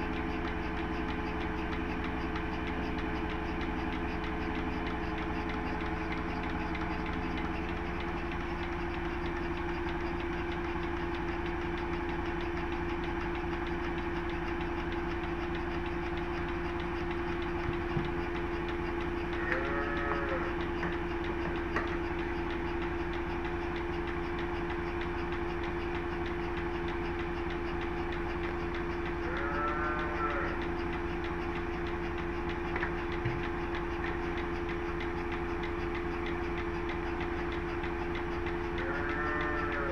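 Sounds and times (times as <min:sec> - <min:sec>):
farm machine humming: 0:00.0 - 0:39.9.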